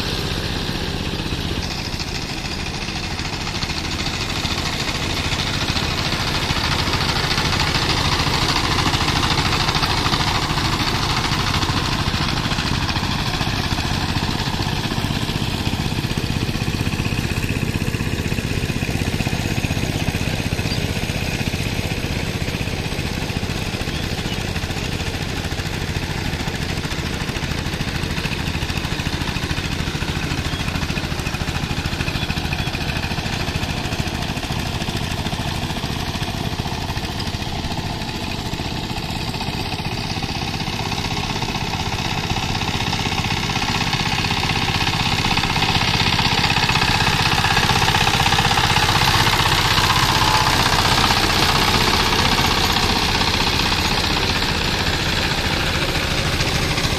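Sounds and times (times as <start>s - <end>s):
diesel engine chugging: 0.0s - 56.9s.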